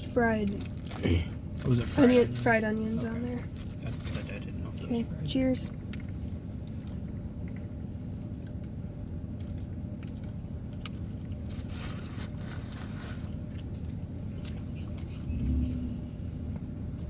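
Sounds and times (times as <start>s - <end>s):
low rumble inside car: 0.0s - 17.0s.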